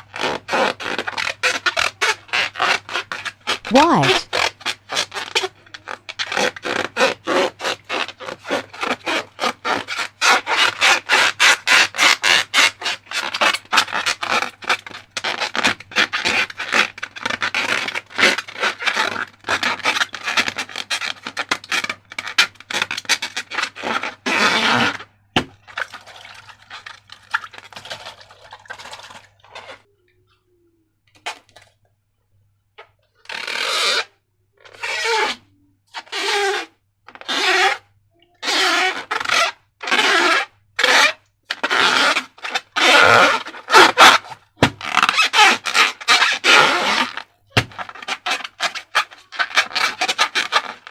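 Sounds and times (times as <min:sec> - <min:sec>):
slime stirred and scraped: 0:00.0 - 0:29.9, 0:32.8 - 0:50.9.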